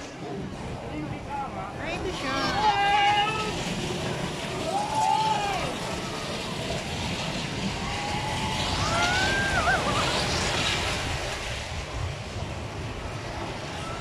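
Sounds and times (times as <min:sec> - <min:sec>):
roller coaster rumbling on track: 0:00.0 - 0:14.0.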